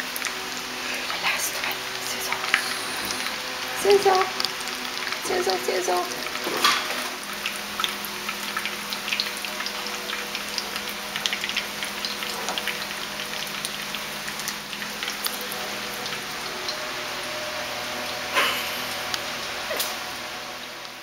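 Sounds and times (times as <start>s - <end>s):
fish frying in hot oil: 0.0s - 21.0s.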